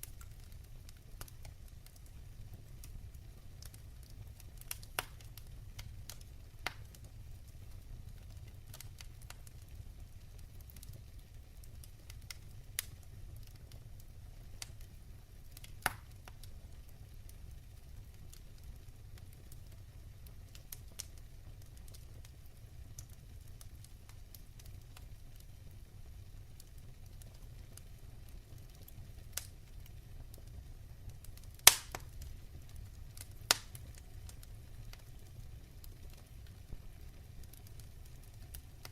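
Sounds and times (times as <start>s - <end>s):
fire crackles and pops: 0.0s - 38.9s
fire flames rumbling: 0.0s - 38.9s.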